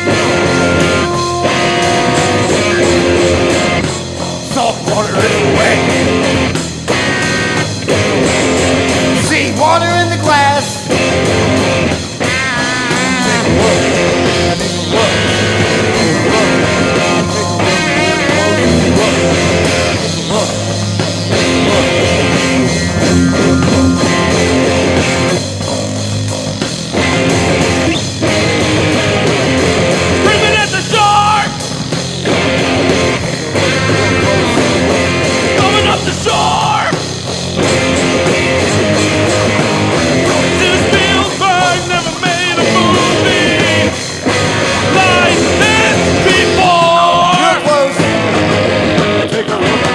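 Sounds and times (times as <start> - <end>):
wavering high guitar lines: 0.0 - 10.1, 10.8 - 49.3
punk rock song: 0.0 - 49.9.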